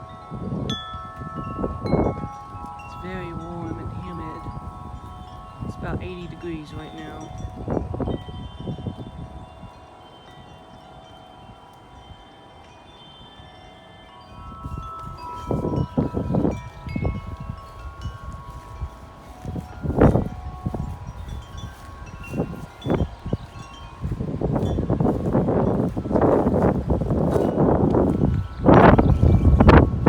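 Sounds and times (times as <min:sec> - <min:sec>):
wind buffeting microphone: 0:00.0 - 0:30.0
wind chimes ringing: 0:00.0 - 0:30.0.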